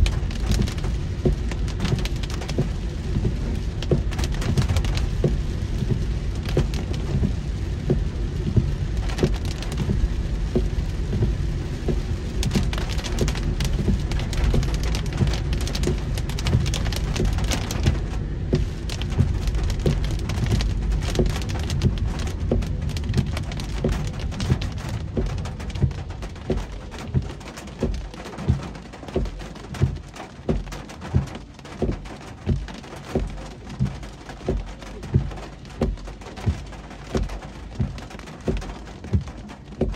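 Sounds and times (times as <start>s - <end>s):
rain pattering on a car: 0.0s - 39.9s
regular thump: 0.0s - 39.9s
road and tyre rumble: 0.0s - 39.9s.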